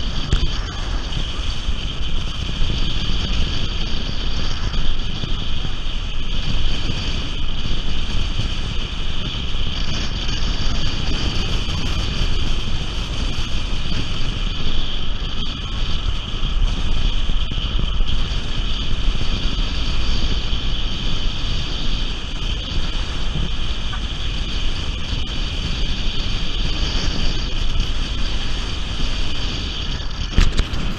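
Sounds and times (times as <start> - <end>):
road and tyre rumble: 0.0 - 30.9
wind rushing over microphone: 0.0 - 30.9.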